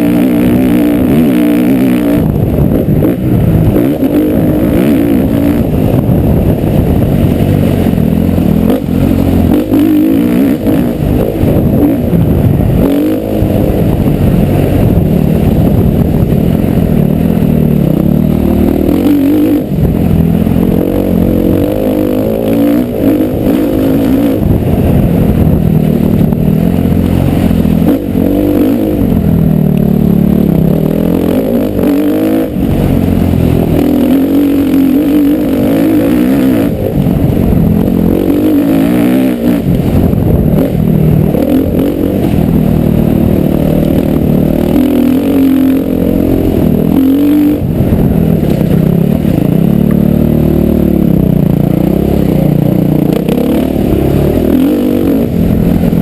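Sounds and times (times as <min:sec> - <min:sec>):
motocross motorcycle engine revving: 0:00.0 - 0:56.0.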